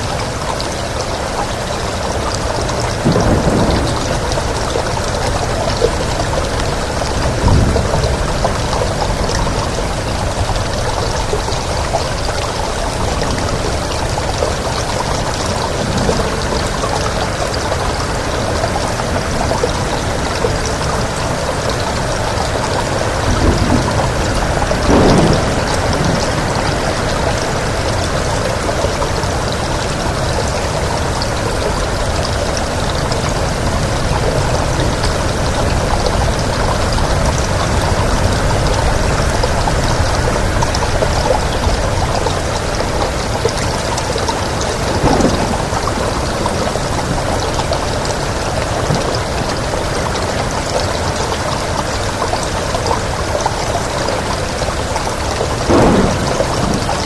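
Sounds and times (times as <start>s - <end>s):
heavy rain: 0.0s - 57.0s
wind: 0.0s - 57.0s.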